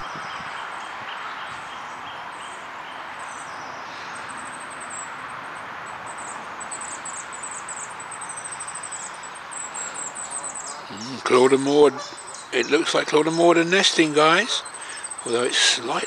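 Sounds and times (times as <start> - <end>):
rural outdoor hiss: 0.0 - 16.0
small birds chirping: 0.0 - 16.0.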